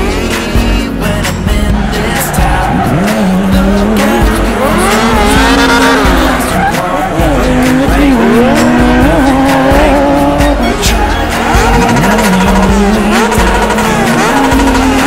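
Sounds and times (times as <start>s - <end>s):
car engine running: 0.0s - 15.0s
music with steady beat: 0.0s - 15.0s
car tyres squealing: 1.3s - 15.0s.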